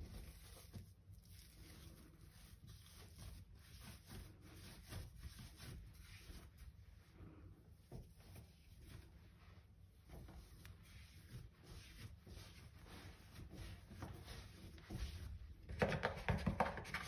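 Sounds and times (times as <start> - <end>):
hands kneading dough on stone: 0.0 - 17.0.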